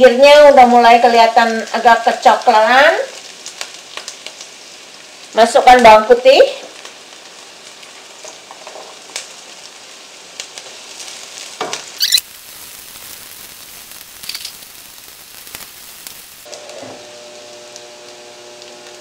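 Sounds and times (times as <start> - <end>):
onion sizzling in hot oil: 0.0 - 19.0.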